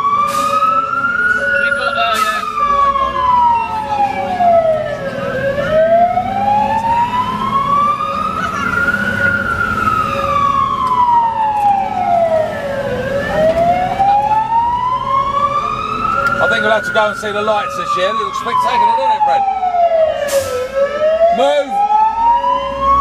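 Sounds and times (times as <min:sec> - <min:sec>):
fire engine wail siren: 0:00.0 - 0:23.0.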